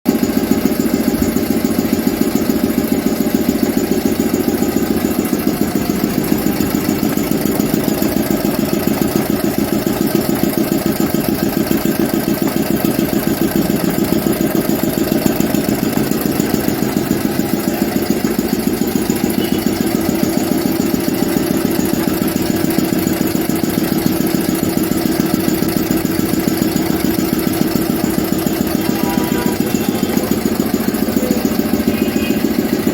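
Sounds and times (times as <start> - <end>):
air compressor pulsing: 0.1 - 32.9.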